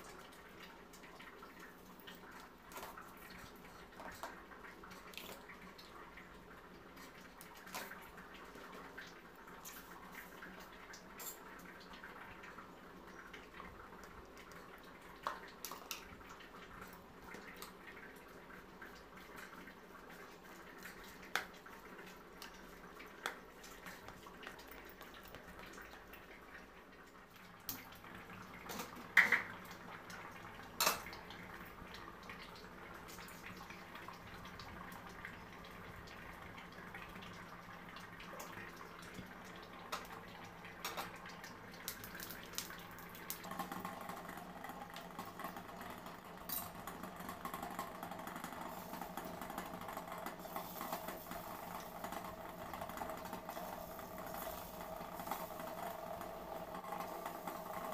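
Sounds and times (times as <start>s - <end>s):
oil hissing and frying: 0.0s - 57.9s.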